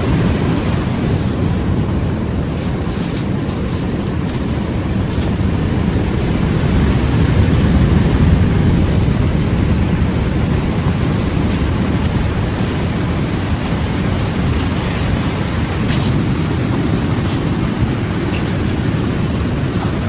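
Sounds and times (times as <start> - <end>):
ocean waves on a beach: 0.0 - 20.0
wind on microphone: 0.0 - 20.0.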